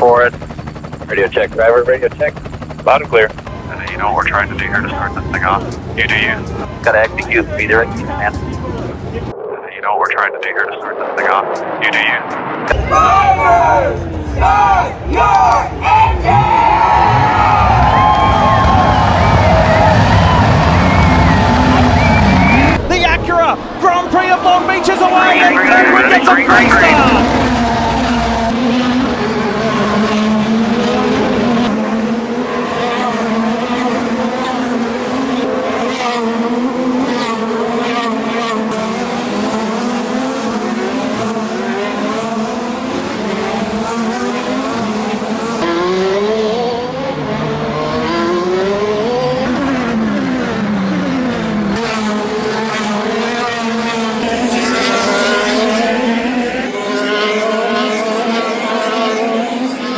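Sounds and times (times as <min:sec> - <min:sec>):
race car engines: 0:00.0 - 0:59.9
race cars passing by: 0:03.4 - 0:09.4, 0:11.2 - 0:59.9.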